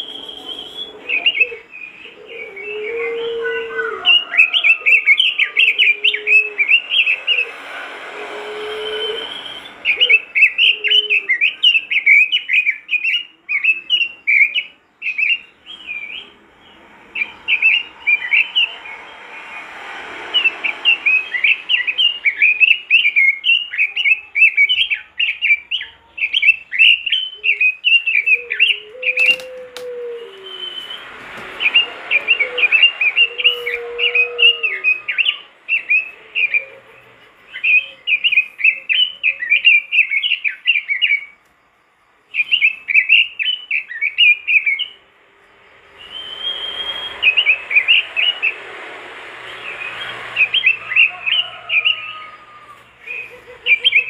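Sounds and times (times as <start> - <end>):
faint low whistled notes: 0.0 - 12.4, 13.6 - 40.0, 41.2 - 53.2
bird warbling song: 0.0 - 19.6, 20.3 - 41.4, 42.3 - 45.0, 45.8 - 54.0.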